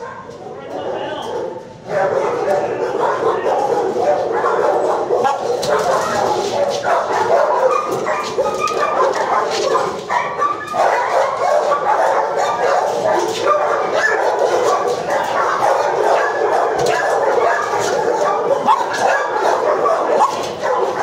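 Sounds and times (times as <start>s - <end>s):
dogs barking: 0.0s - 21.0s.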